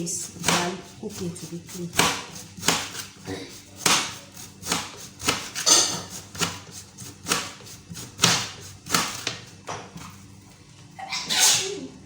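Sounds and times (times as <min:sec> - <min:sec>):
knife chopping on cutting board: 0:00.2 - 0:10.0.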